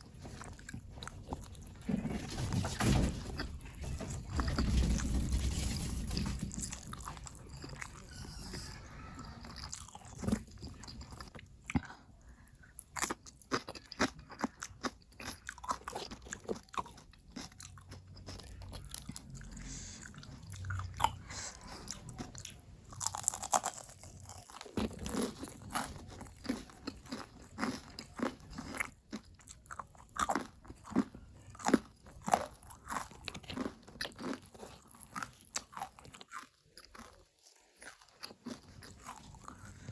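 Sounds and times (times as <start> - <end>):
crunching fried chicken: 0.0 - 39.9.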